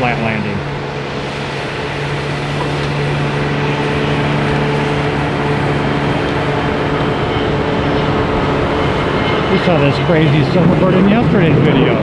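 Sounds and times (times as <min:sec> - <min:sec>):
jet airliner rumble: 0:00.0 - 0:12.0
low hum: 0:00.0 - 0:12.0.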